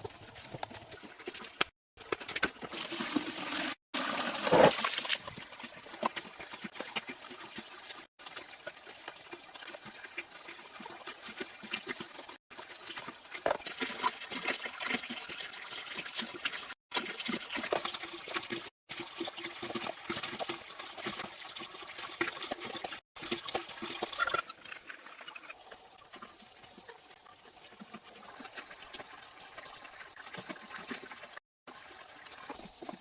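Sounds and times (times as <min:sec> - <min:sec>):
water splashing and trickling: 0:00.0 - 0:33.0.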